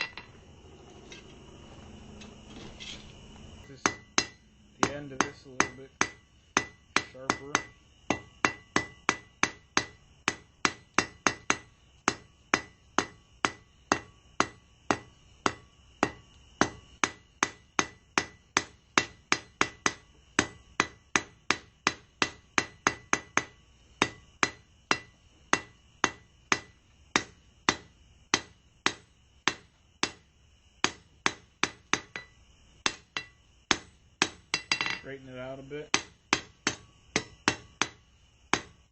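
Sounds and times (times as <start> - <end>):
hammer striking steel on anvil: 0.0 - 0.3, 3.7 - 30.2, 30.8 - 38.8.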